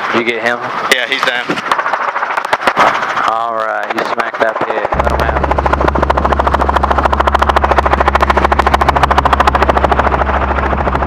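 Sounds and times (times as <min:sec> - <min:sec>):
helicopter engine drone: 0:00.0 - 0:11.0
helicopter rotor blades beating: 0:00.0 - 0:11.0.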